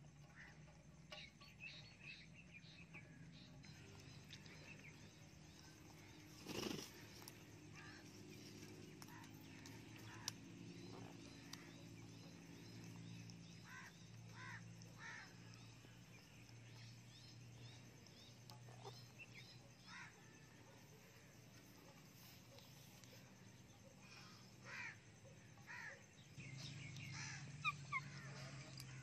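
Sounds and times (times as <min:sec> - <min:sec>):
faint bird chirps: 0:00.0 - 0:29.0.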